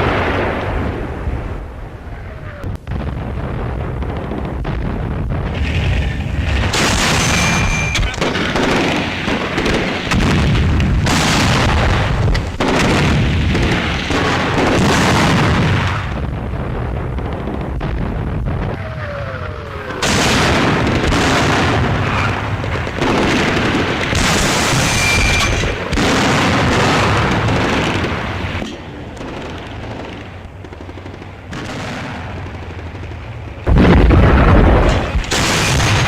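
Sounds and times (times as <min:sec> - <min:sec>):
tank gun firing: 0:00.0 - 0:18.8, 0:19.7 - 0:36.0.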